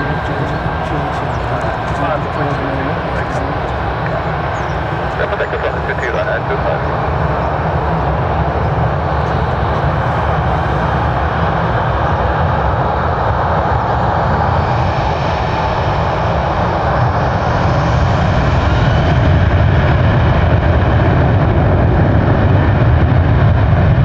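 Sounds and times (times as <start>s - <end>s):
jet airliner engines passing: 0.0s - 24.0s.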